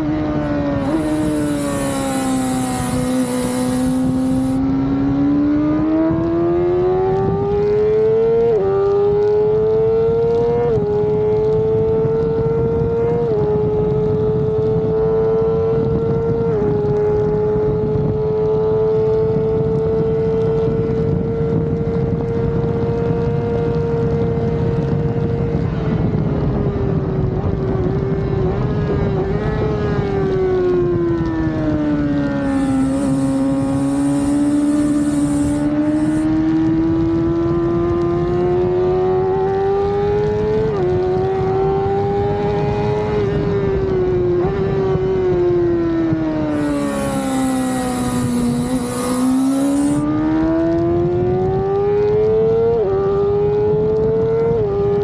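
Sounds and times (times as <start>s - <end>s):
motorcycle engine at high revs: 0.0s - 25.3s, 31.9s - 43.3s, 46.3s - 55.0s.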